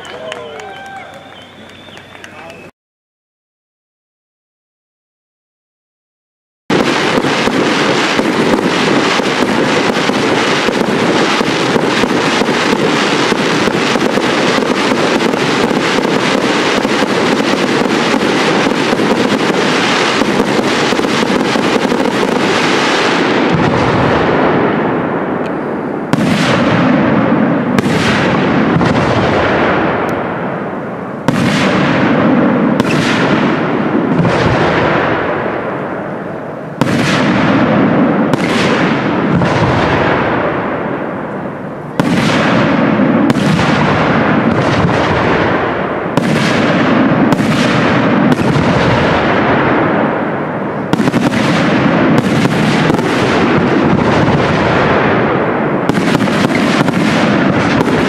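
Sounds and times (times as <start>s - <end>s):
fireworks crackling: 0.0s - 2.7s, 6.7s - 58.0s.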